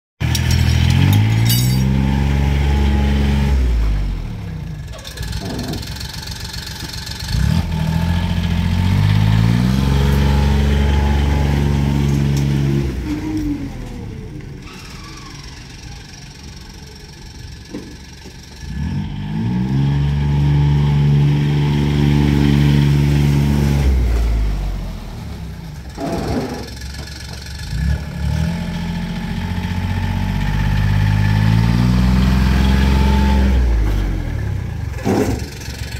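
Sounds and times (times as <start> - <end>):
diesel engine running: 0.2 - 35.9.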